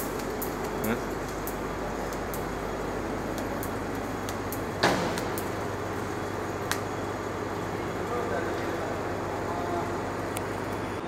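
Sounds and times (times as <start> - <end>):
arc welding crackling: 0.0 - 11.0
low machinery hum: 0.0 - 11.0.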